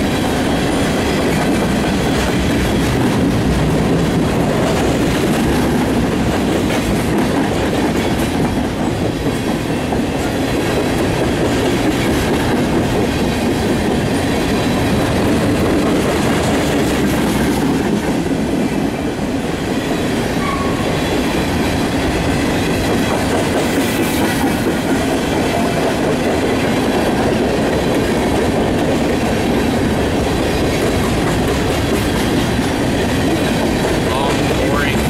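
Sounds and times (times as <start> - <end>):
freight train rolling past: 0.0 - 35.0
wheels clickety-clack: 0.0 - 35.0.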